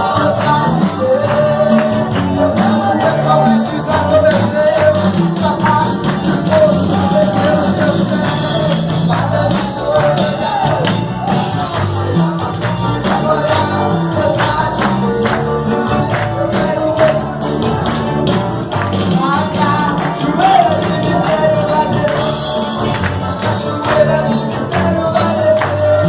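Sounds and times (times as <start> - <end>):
gospel band playing: 0.0 - 26.0
person singing melody: 0.0 - 26.0.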